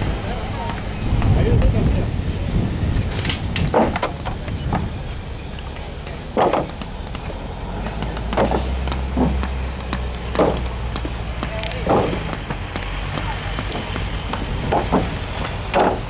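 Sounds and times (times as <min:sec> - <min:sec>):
concrete blocks clacking: 0:02.9 - 0:16.0.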